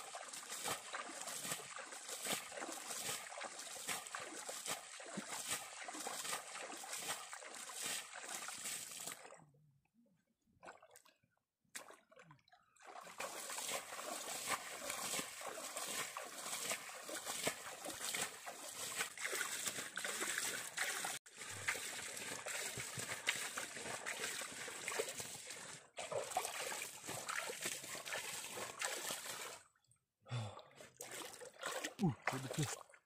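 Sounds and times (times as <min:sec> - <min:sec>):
muddy water splashing and sloshing: 0:00.0 - 0:09.6, 0:10.6 - 0:33.0.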